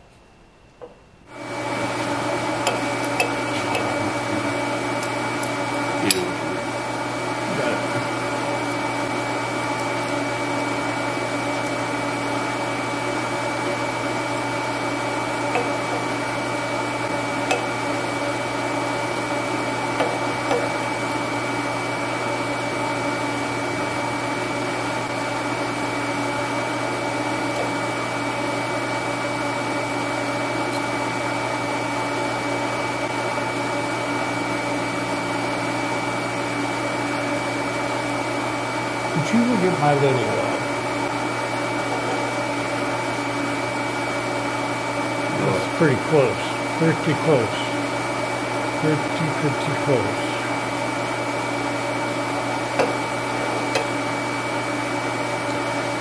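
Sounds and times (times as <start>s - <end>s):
shop machinery whirring: 0.0s - 56.0s.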